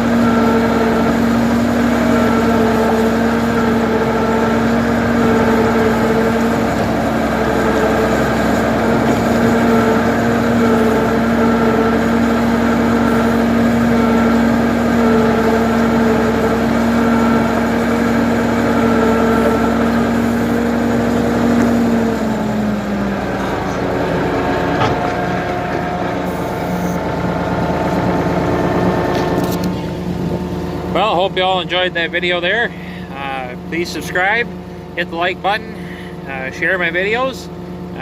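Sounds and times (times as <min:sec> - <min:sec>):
backhoe engine running: 0:00.0 - 0:38.0.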